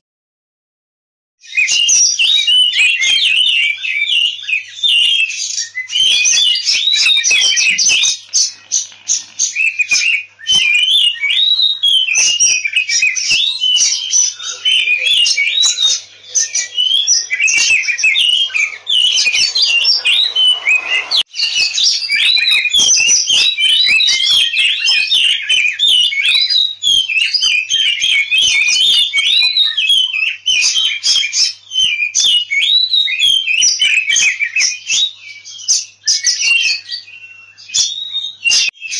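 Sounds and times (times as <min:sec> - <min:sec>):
bird singing whistles and chirps: 0:01.4 - 0:38.9.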